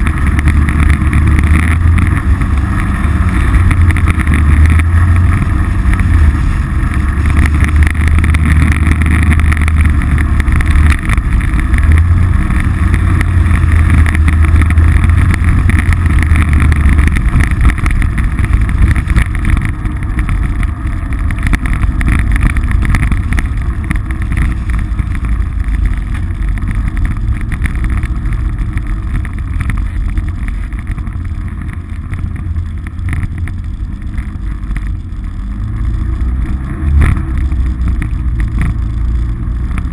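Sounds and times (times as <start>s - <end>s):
off-road vehicle engine droning: 0.0s - 39.9s.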